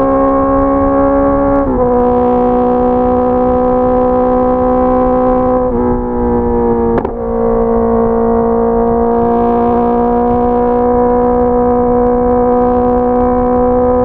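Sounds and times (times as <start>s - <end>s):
motorcycle engine at high revs: 0.0s - 14.0s
wind rumble: 0.0s - 14.0s.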